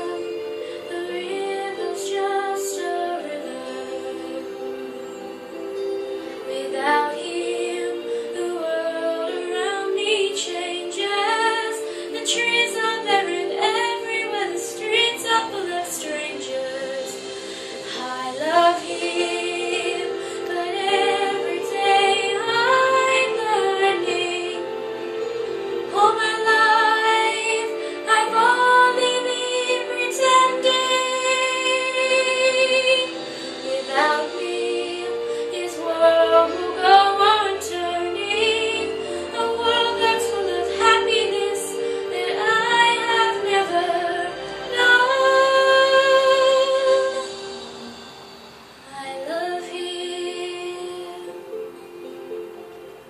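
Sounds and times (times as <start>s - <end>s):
woman singing with vibrato: 0.0s - 5.0s, 6.4s - 25.1s, 25.7s - 48.0s, 48.8s - 51.6s
sustained instrumental accompaniment: 0.0s - 53.0s.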